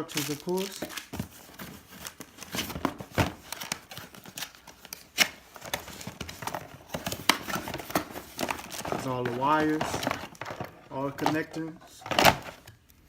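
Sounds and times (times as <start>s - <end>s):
knocks and clicks of packaging: 0.0s - 12.8s
packaging rustling: 0.0s - 12.8s.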